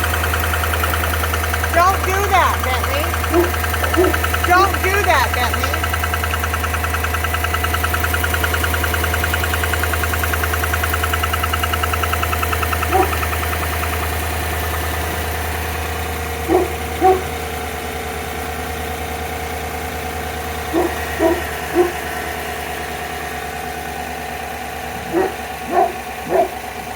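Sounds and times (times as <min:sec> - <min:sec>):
engine idling: 0:00.0 - 0:26.9
exhaust ticking: 0:00.0 - 0:26.9.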